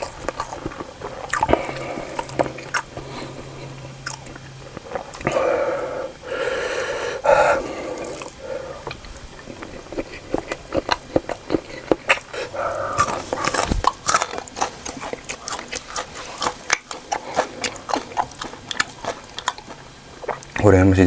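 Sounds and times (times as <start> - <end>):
person chewing and lip smacking: 0.0 - 6.5, 7.2 - 20.6.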